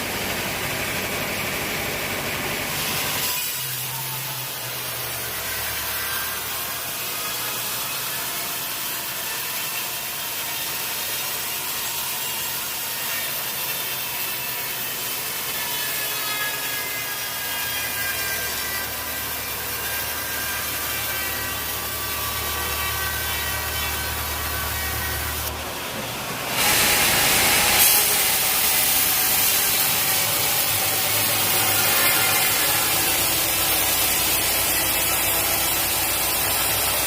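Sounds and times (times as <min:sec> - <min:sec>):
saw cutting through log: 0:00.0 - 0:37.0.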